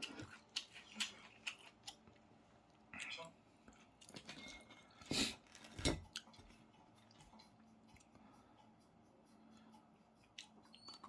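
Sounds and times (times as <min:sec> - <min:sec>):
faint chewing: 0:00.0 - 0:11.0
loud eating noises: 0:00.0 - 0:11.0.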